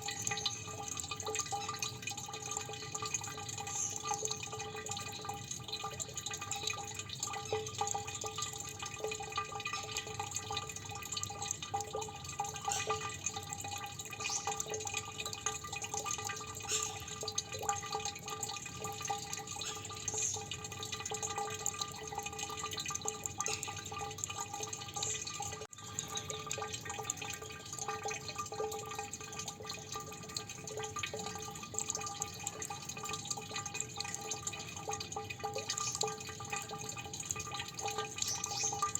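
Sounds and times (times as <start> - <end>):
water dripping: 0.0 - 38.9.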